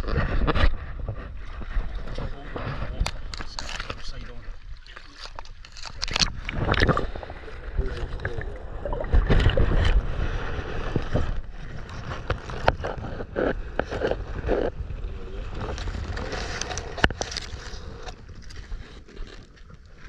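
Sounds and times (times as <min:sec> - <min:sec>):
muffled underwater movement: 0:00.0 - 0:20.0.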